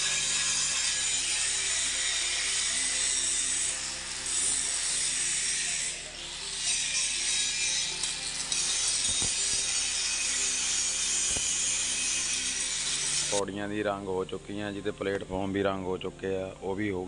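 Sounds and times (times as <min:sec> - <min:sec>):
angle grinder grinding steel: 0:00.0 - 0:15.7.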